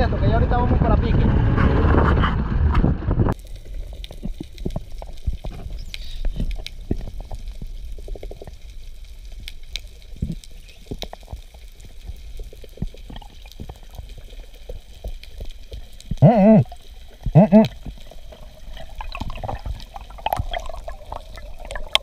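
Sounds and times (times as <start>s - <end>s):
muffled underwater rumble: 0.0s - 22.0s
sharp underwater clicks: 3.3s - 22.0s.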